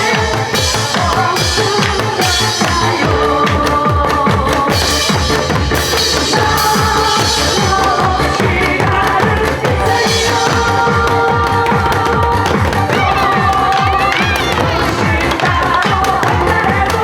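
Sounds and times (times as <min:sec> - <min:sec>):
rapid drum strokes: 0:00.0 - 0:17.0
up-tempo backing music: 0:00.0 - 0:17.0.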